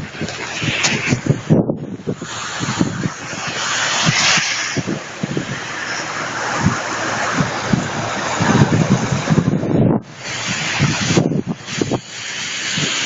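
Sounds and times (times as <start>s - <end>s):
floodwater rushing: 0.0s - 13.0s
wind thumps on microphone: 0.0s - 13.0s.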